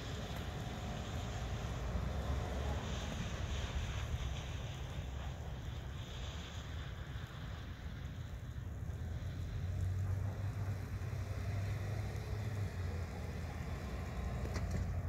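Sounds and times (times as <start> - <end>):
distant car engine rumble: 0.0 - 15.0.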